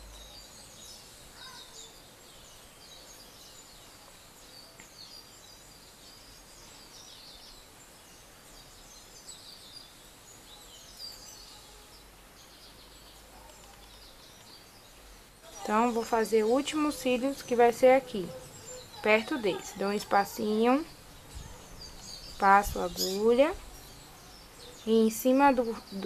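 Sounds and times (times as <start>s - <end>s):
birds chirping: 0.0s - 26.0s
faint steady hiss: 0.0s - 26.0s.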